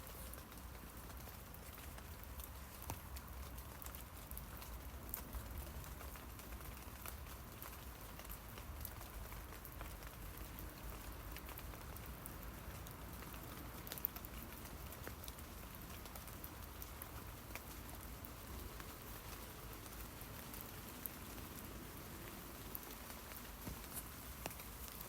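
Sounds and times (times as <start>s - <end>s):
rain falling on tree leaves: 0.0s - 25.0s.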